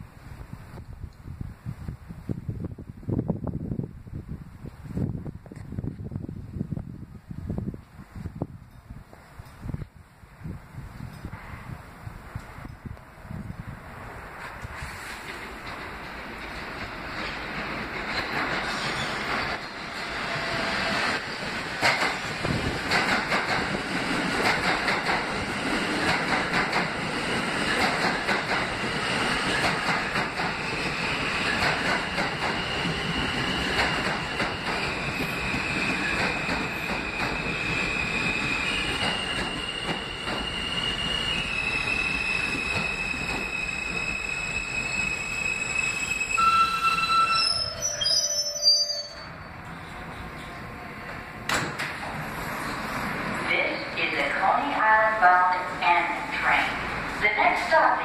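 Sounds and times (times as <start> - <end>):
train wheel and rail rumble: 0.0 - 58.0.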